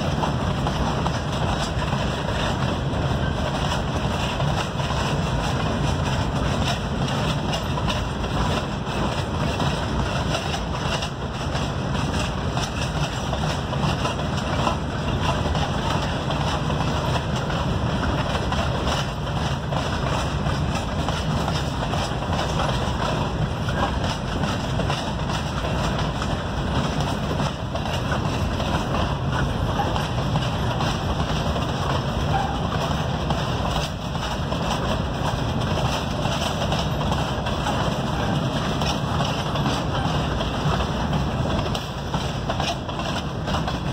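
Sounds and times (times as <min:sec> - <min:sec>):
train wheels rolling on rails: 0:00.0 - 0:43.9.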